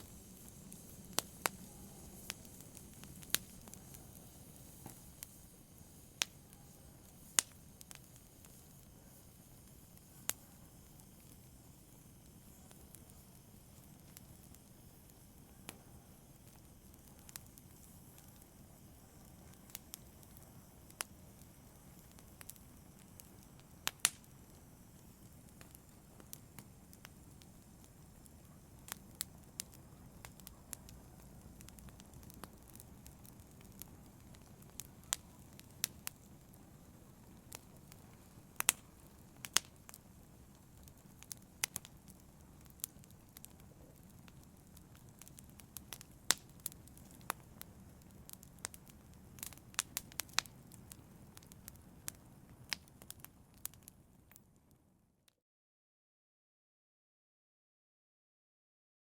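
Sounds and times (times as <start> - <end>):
wood fire crackling: 0.0 - 54.8.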